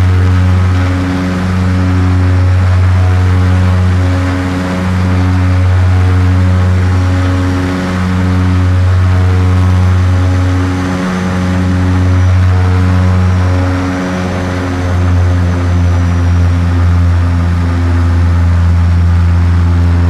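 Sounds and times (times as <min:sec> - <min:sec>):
airship engine drone: 0:00.0 - 0:20.0.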